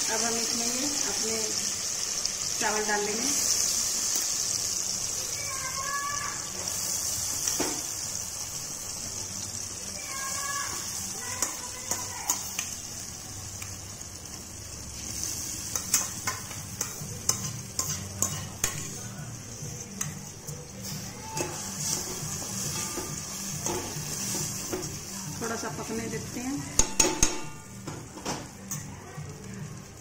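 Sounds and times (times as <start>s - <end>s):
food sizzling in a pot: 0.0s - 30.0s.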